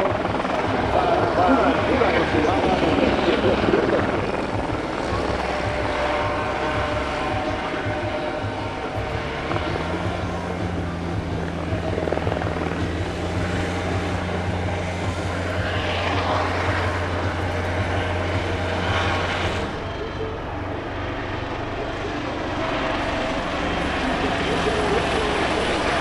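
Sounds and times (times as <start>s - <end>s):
helicopter rotor and turbine drone: 0.0s - 26.0s.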